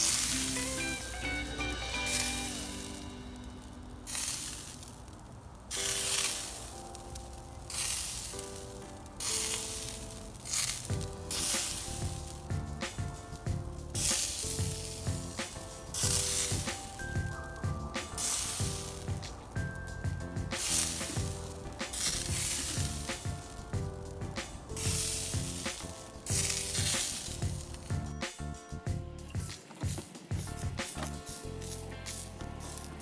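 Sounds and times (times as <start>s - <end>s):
steaks sizzling over coals: 0.0s - 33.0s.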